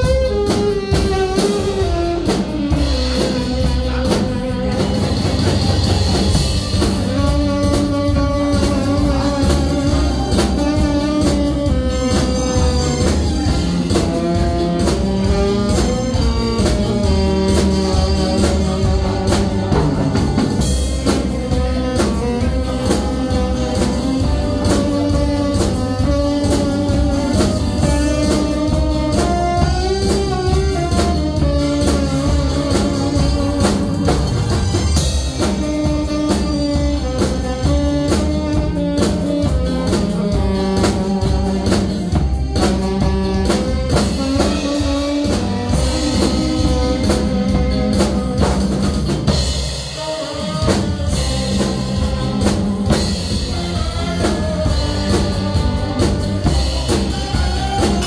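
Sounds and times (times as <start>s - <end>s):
drum kit beat: 0.0s - 58.0s
saxophone melody: 0.0s - 58.0s.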